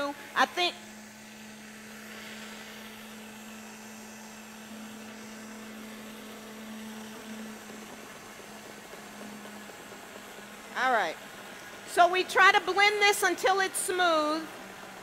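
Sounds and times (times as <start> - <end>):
blender running: 0.0 - 15.0.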